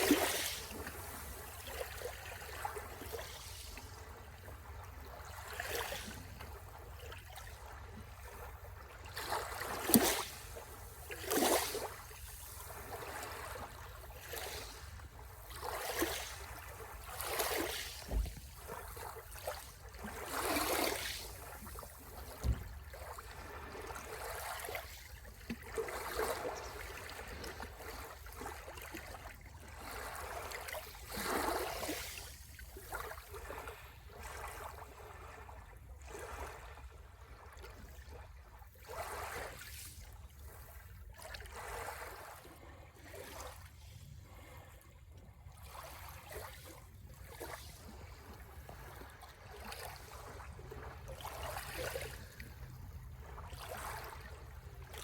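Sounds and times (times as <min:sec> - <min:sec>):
small waves washing onto shore: 0:00.0 - 0:37.5, 0:45.6 - 0:55.0.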